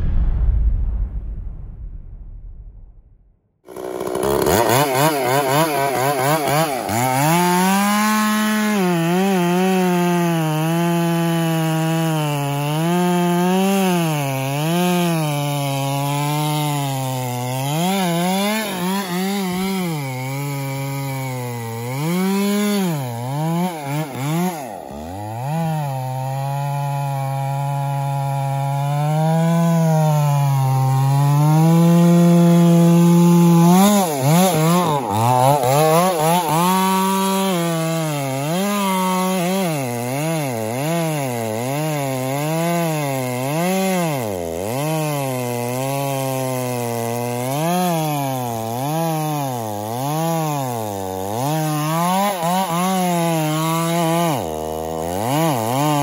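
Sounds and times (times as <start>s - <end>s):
chainsaw cutting log: 3.6s - 56.0s.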